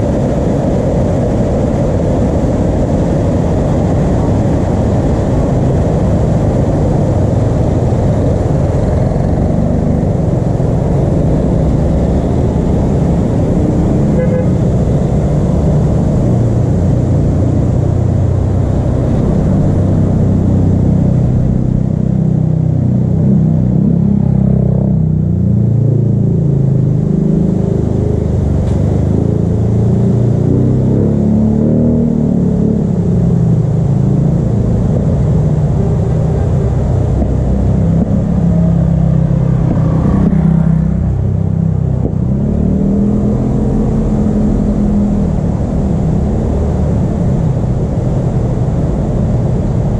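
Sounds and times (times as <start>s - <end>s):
low rumble: 0.0s - 49.9s
vehicles passing on a wet road: 0.0s - 49.9s.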